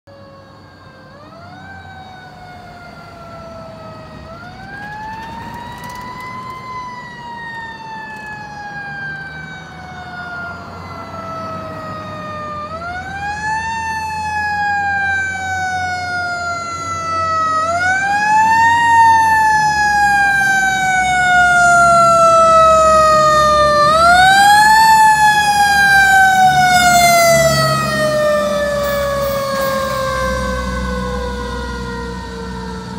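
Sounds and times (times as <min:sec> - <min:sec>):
fire engine siren wailing: 0:00.1 - 0:32.9
truck engine rumbling: 0:00.4 - 0:32.9.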